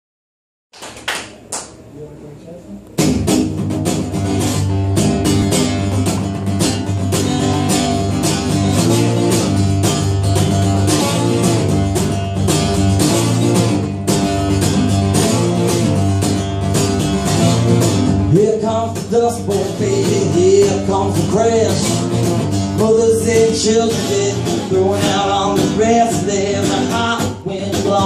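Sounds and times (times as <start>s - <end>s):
acoustic guitar strumming: 3.0s - 28.0s.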